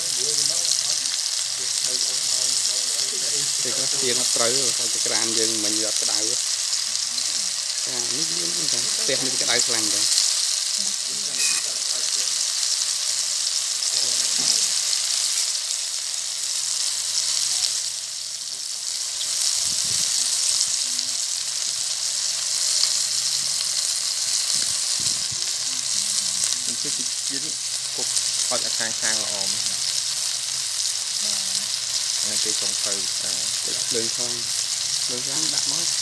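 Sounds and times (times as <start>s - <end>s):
steaks sizzling in a pan: 0.0s - 36.0s.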